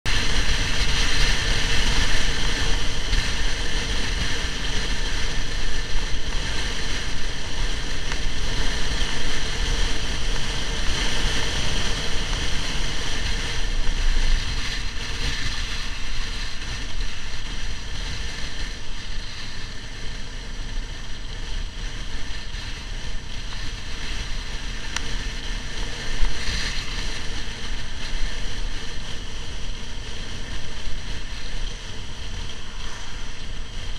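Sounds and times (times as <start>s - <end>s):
motorcycle engine: 0.0s - 33.9s
wind buffeting microphone: 0.0s - 33.9s.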